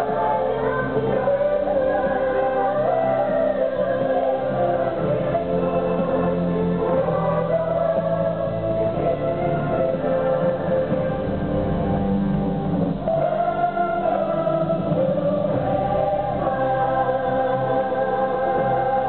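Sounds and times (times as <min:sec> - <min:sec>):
choir singing slow melody: 0:00.0 - 0:19.0
steady musical accompaniment: 0:00.0 - 0:19.0.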